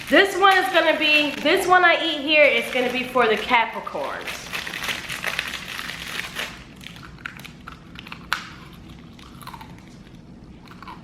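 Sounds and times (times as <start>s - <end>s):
fortune cookie crunching: 0.0s - 11.0s.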